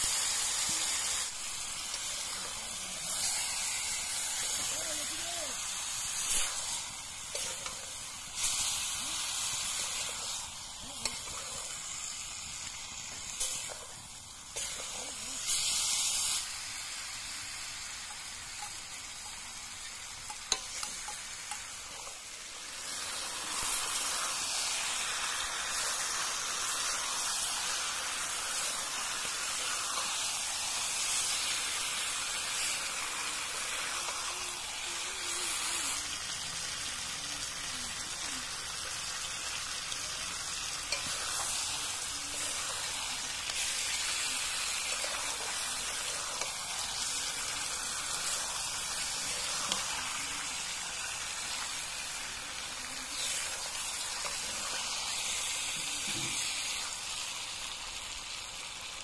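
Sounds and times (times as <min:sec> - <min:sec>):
pork sizzling in a wok: 0:00.0 - 0:59.0
metal spatula turning food: 0:00.5 - 0:36.8, 0:37.9 - 0:56.8.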